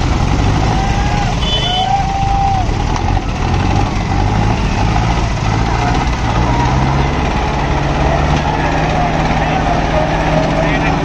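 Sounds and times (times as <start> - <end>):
diesel tractor engines under load: 0.0 - 11.0.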